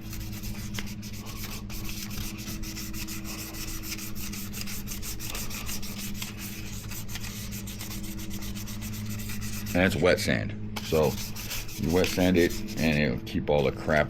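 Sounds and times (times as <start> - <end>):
sandpaper rubbing plastic: 0.0 - 10.0, 10.8 - 13.2
low hum: 0.0 - 14.0.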